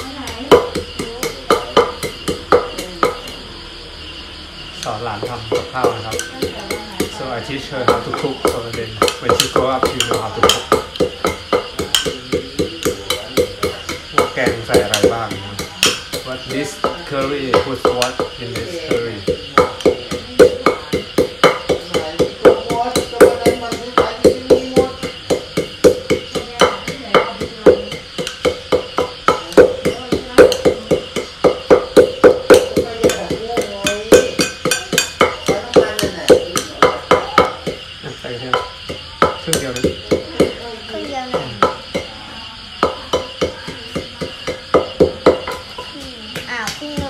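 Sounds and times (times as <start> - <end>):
pestle pounding in mortar: 0.0 - 3.6, 4.8 - 47.0.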